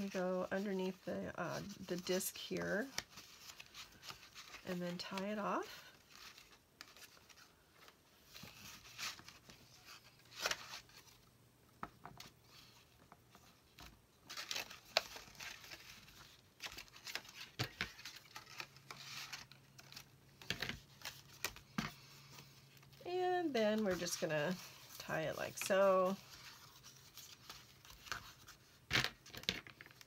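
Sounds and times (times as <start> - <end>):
paper rustling and crinkling: 0.0 - 30.0.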